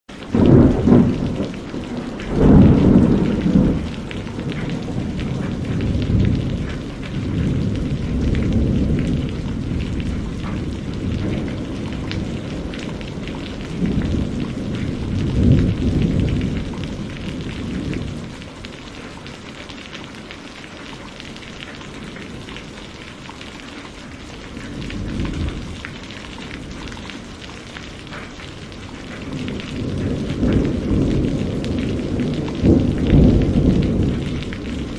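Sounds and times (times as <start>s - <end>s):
steady rain falling: 0.1s - 34.9s
low rolls of thunder: 0.2s - 19.4s, 21.4s - 23.1s, 24.2s - 34.9s.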